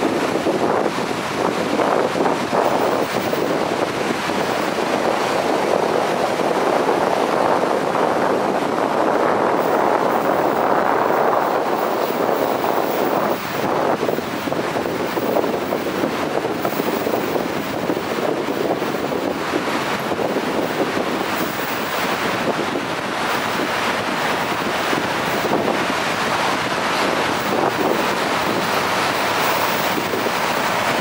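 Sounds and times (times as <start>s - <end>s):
traffic noise in a tunnel: 0.0s - 31.0s.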